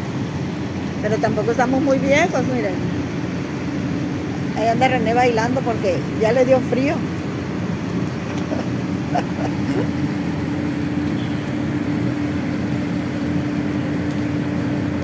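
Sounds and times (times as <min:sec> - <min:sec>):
constant low drone: 0:00.0 - 0:15.0.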